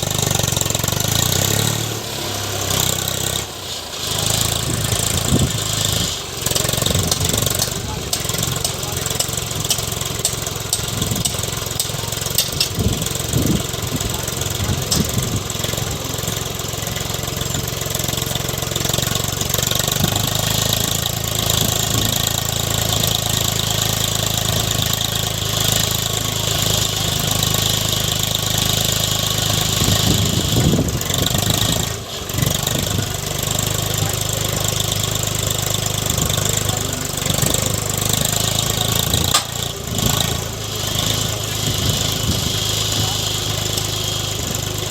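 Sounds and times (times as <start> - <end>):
backhoe diesel engine running: 0.0 - 44.9.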